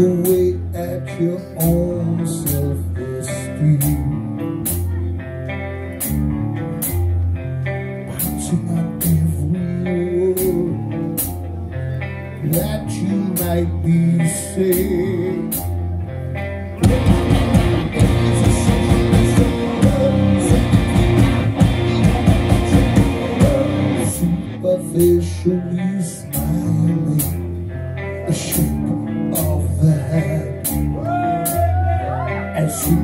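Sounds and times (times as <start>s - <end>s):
live metal band playing: 0.0s - 33.0s.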